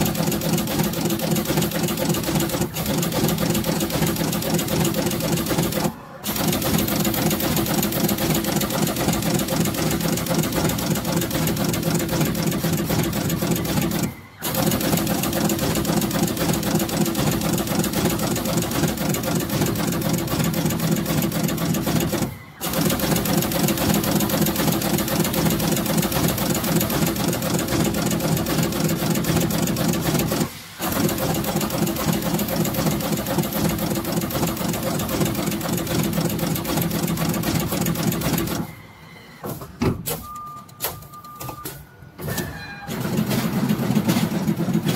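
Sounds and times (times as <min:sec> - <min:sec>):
component inserter machine clatter: 0:00.0 - 0:38.7, 0:42.9 - 0:44.9.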